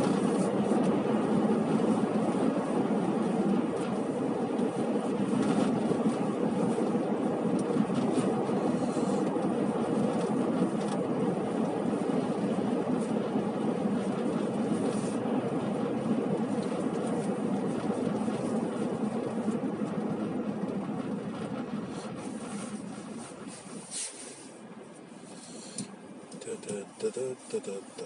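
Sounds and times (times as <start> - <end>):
strong wind blowing: 0.0 - 23.8.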